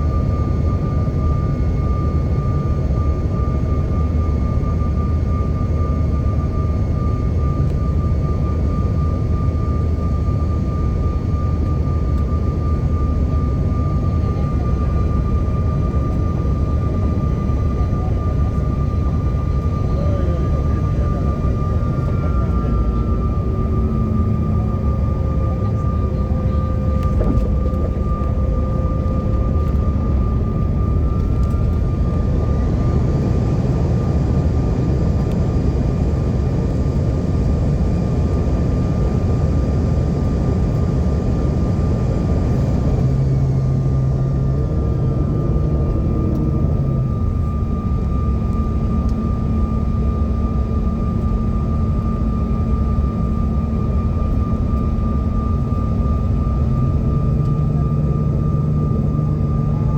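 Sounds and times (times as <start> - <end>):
jet engine rumble in cabin: 0.0 - 59.9
jet engine whine: 0.0 - 59.9.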